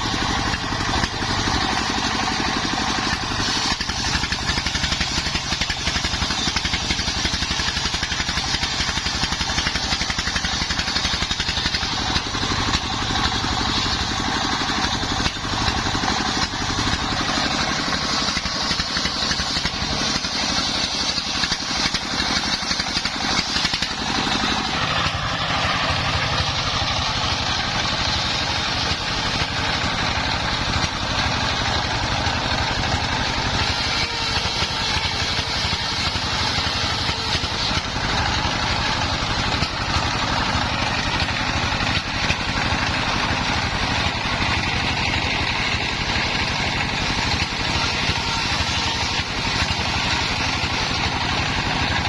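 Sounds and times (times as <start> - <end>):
engine hum: 0.0 - 52.0
saw blade whine: 0.0 - 52.0.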